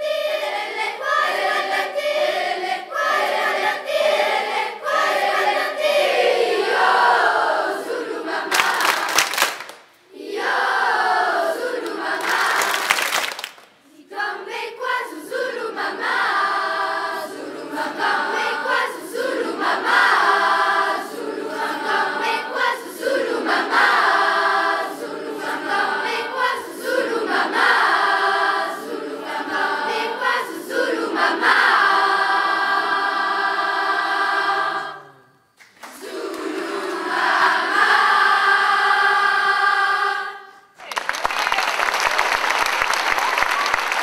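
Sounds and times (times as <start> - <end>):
choir singing: 0.0 - 9.2, 10.1 - 13.2, 13.8 - 40.8.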